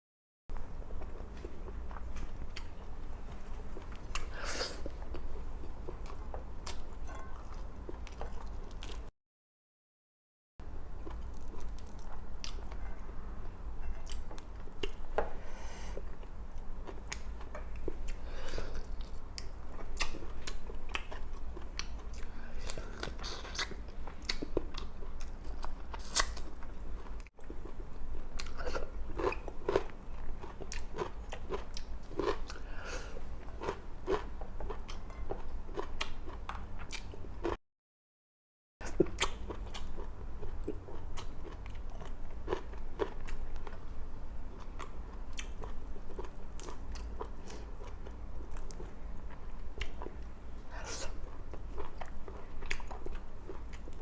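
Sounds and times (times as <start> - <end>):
person chewing food: 0.8 - 9.1, 11.0 - 37.6, 38.8 - 54.0.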